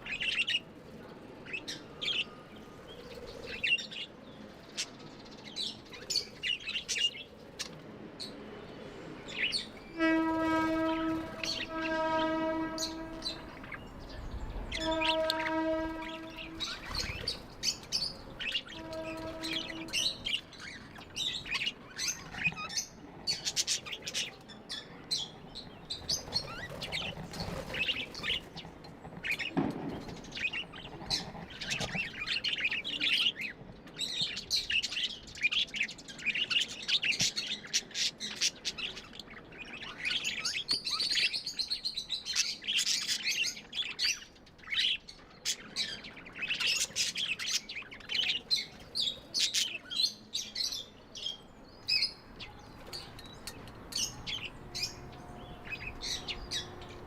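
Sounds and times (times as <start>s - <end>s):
budgies chirping and chattering: 9.2s - 57.0s.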